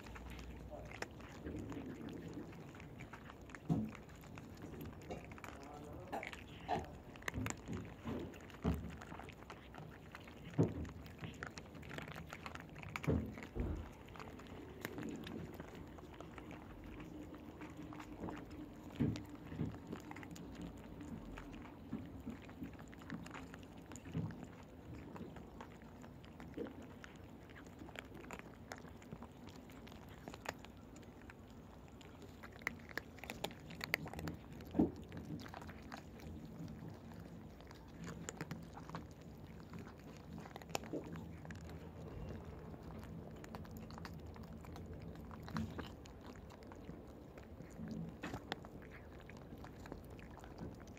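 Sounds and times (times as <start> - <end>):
cat crunching dry kibble: 0.0 - 50.9.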